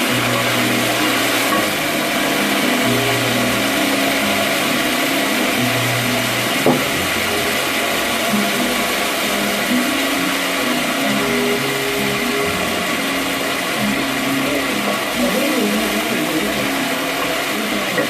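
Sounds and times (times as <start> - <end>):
faint tones shifting in pitch: 0.0 - 18.0.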